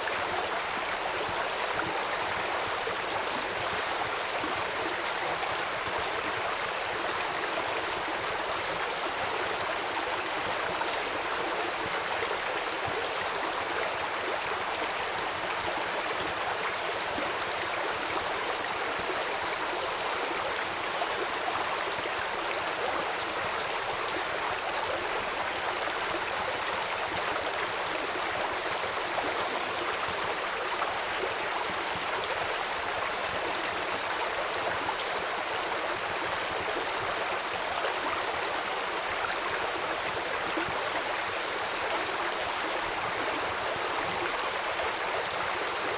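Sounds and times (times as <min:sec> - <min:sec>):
stream flowing: 0:00.0 - 0:45.9.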